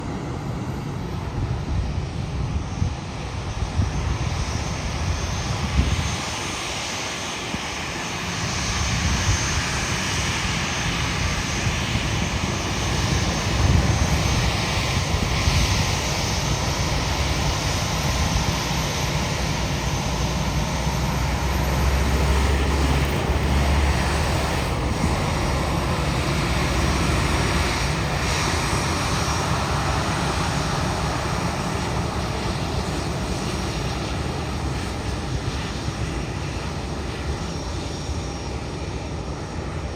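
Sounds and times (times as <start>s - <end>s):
jet engines taxiing: 0.0s - 39.9s.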